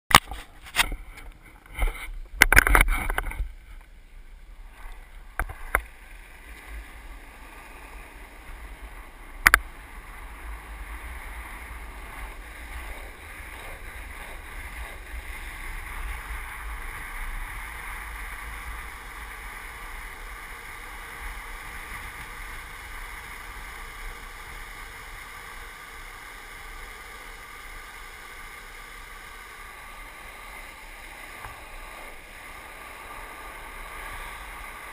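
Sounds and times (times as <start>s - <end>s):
longboard wheels rolling on asphalt: 0.1s - 34.9s.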